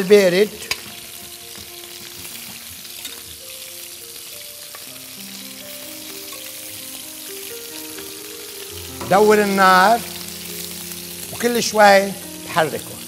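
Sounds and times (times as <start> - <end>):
chicken wings sizzling in a pan: 0.0 - 13.0
soft background music: 0.0 - 13.0.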